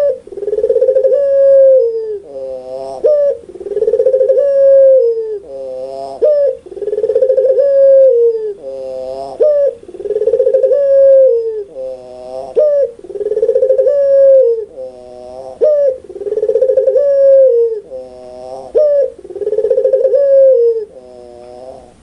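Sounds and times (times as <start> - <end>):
dove laughing coo: 0.0 - 22.0.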